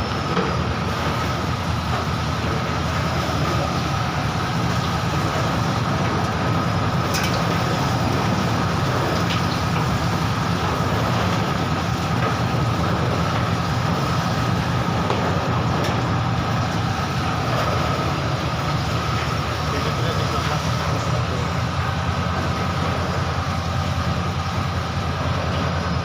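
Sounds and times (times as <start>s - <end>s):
thin steady whine: 0.0s - 26.0s
washing machine motor hum: 0.0s - 26.0s.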